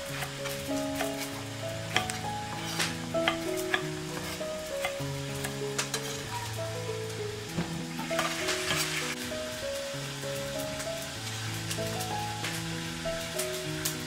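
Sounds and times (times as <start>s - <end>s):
slow background music: 0.0s - 14.0s.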